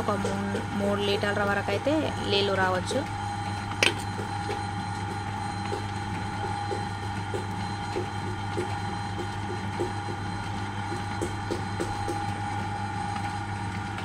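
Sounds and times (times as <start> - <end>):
potter's wheel humming: 0.0 - 14.0.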